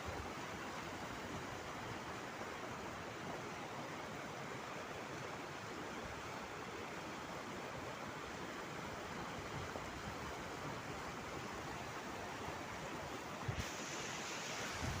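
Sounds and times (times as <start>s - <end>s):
rain and running water: 0.0s - 15.0s.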